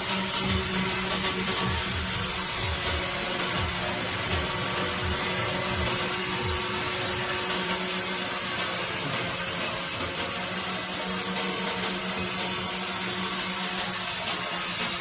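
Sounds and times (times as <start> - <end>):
woodworking power tool running: 0.0 - 15.0.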